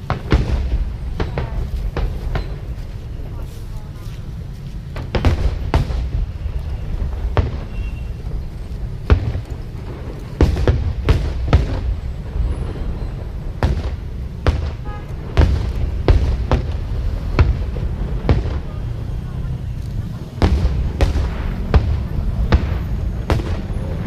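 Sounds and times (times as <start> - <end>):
fireworks bangs: 0.0 - 24.0
low rumble of fireworks: 0.0 - 24.0.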